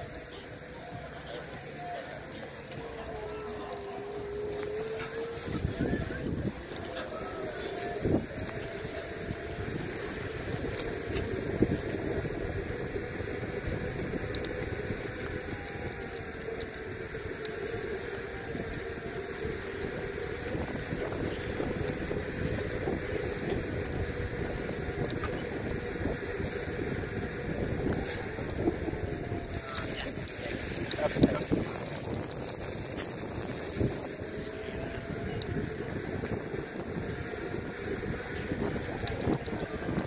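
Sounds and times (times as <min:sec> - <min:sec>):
electric motor whine: 0:00.0 - 0:40.0
small wheels rumbling on concrete: 0:00.0 - 0:40.0
wind buffeting microphone: 0:00.0 - 0:40.0.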